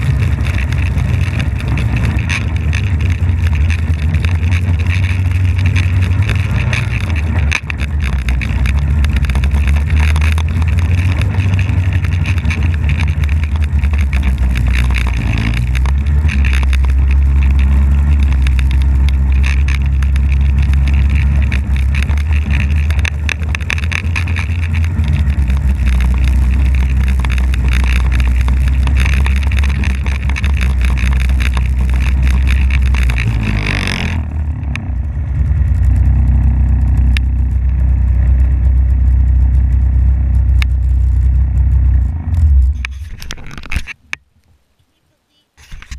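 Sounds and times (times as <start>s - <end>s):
snowmobile engine running: 0.0s - 43.8s.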